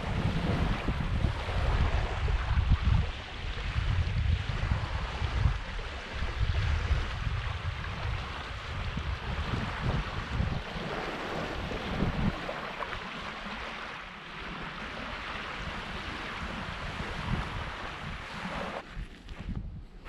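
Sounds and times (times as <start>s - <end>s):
small waves lapping on shore: 0.0s - 20.0s
wind gusting on microphone: 0.0s - 20.0s.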